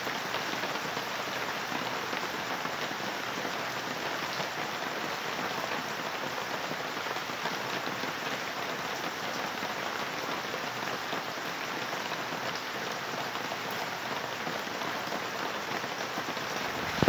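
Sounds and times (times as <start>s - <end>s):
heavy rain on plants: 0.0s - 17.0s.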